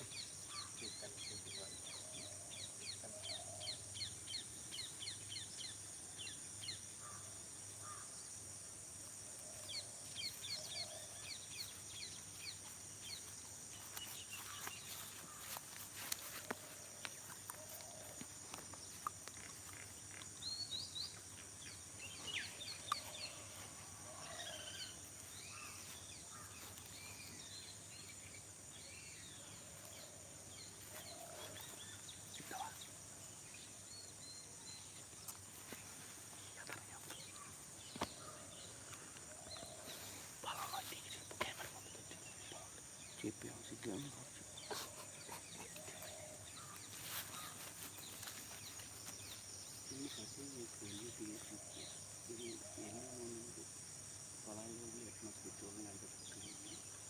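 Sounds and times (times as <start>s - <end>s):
birds chirping: 0.0s - 8.2s, 9.4s - 53.9s, 54.5s - 57.0s
insect drone: 0.0s - 57.0s.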